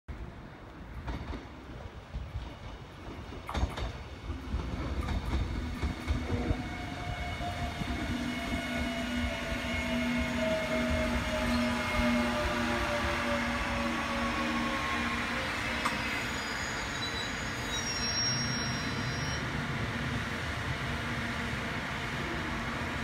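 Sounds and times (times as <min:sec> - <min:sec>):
train wheels rumbling on rails: 0:00.2 - 0:23.0.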